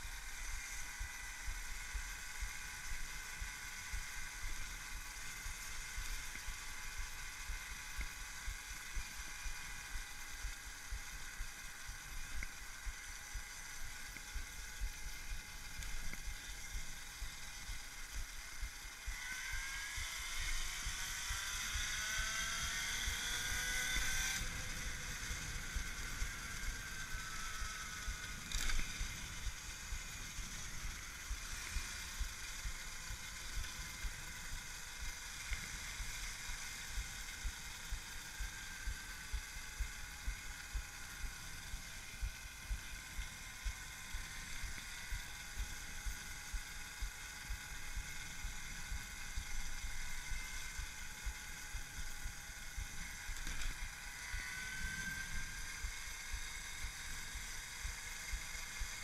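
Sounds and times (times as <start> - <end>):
electric motor whining: 0.0 - 59.0.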